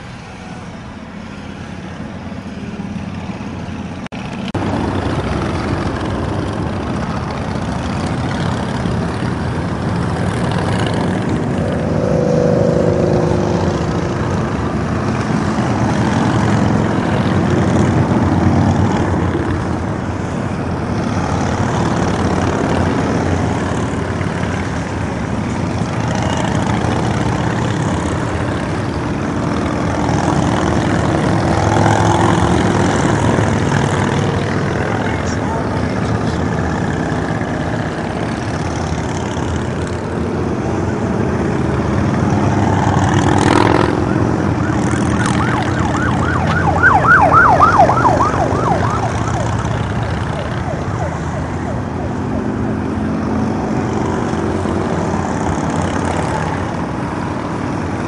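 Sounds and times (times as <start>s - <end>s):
motorcycles passing: 0.0s - 58.0s.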